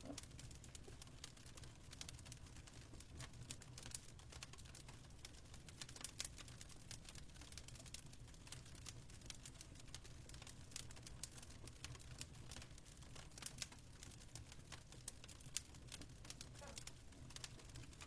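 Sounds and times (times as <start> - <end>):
fireplace crackling: 0.0 - 18.0.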